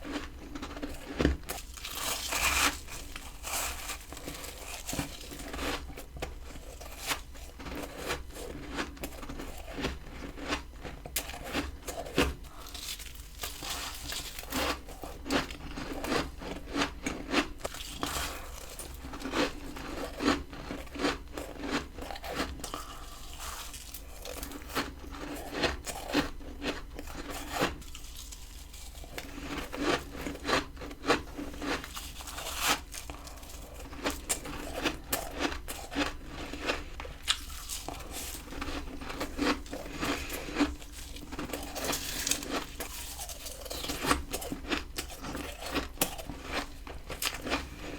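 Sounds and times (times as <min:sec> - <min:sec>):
person crunching frost: 0:00.0 - 0:47.9.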